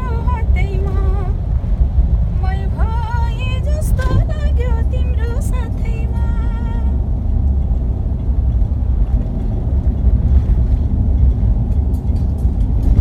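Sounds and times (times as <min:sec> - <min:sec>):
car interior driving rumble: 0:00.0 - 0:13.0.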